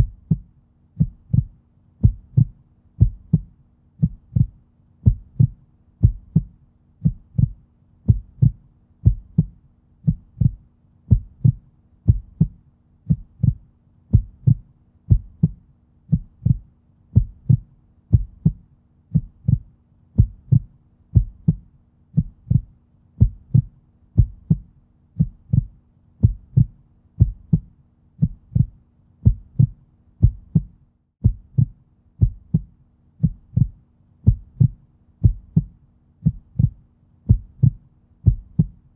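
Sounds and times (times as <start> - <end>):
heartbeat-like low thumping: 0.0 - 38.9.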